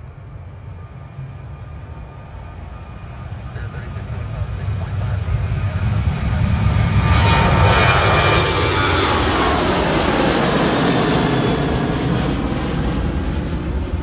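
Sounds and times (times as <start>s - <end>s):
jet airliner engines roaring: 0.0s - 14.0s.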